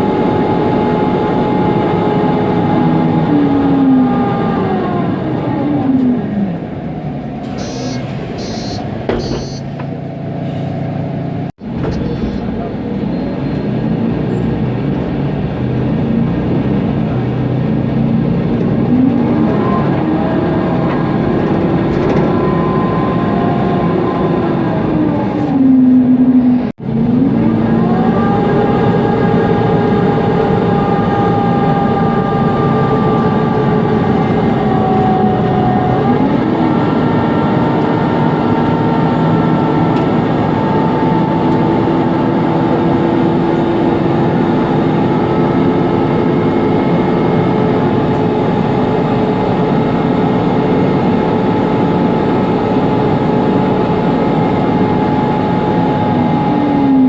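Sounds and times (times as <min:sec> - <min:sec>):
bus engine whining: 0:00.0 - 0:57.0.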